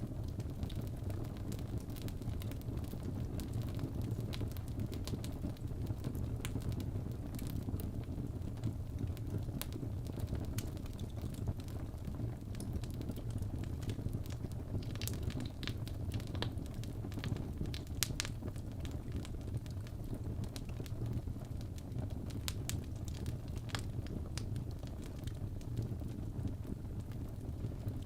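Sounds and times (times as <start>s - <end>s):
burning logs crackling and popping: 0.0s - 28.0s
flame low rumble: 0.0s - 28.0s.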